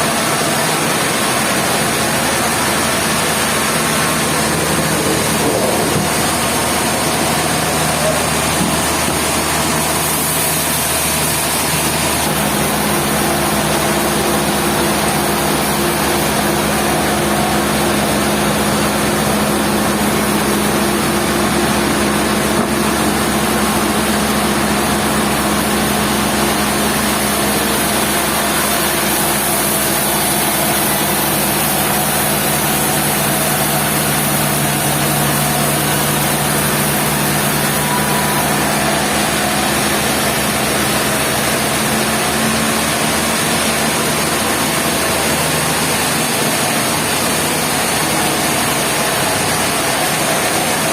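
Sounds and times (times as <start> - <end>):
sawmill machinery running: 0.0 - 50.9.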